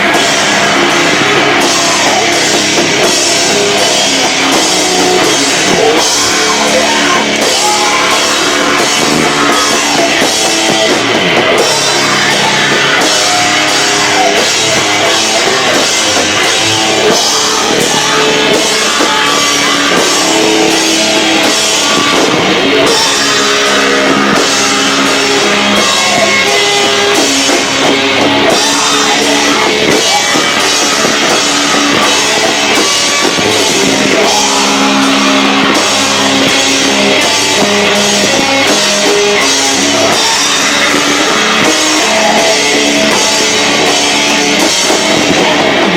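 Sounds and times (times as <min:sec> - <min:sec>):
loud distorted rock band: 0:00.0 - 0:45.9.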